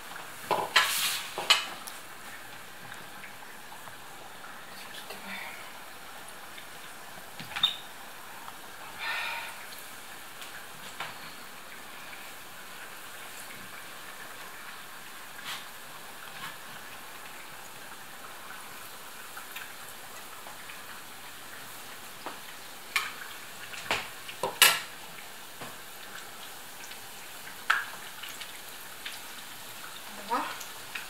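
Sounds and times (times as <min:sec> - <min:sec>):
dough deep-frying in oil: 0:00.0 - 0:31.0.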